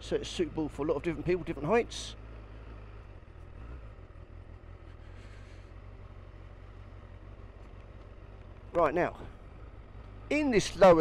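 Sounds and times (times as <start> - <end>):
motorcycle engine low rumble: 0.0 - 11.0.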